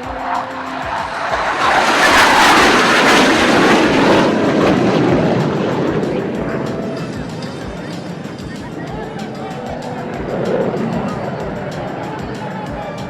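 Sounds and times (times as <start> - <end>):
jet aircraft roar: 0.0 - 12.9.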